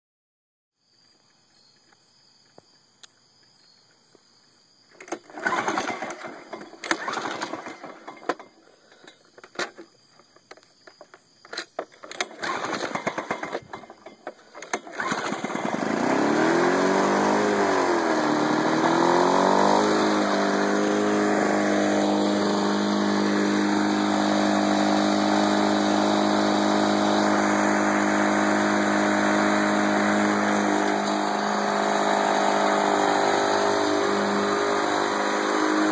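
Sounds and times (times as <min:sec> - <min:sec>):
lawn mower engine starting: 0:04.9 - 0:35.9.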